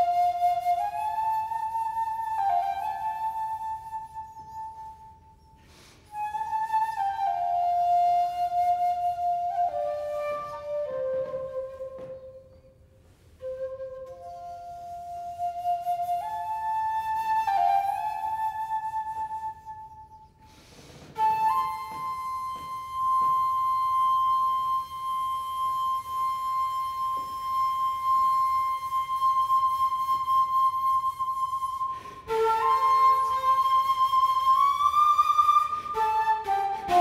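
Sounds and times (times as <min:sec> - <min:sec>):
flute playing long notes: 0:00.0 - 0:37.0.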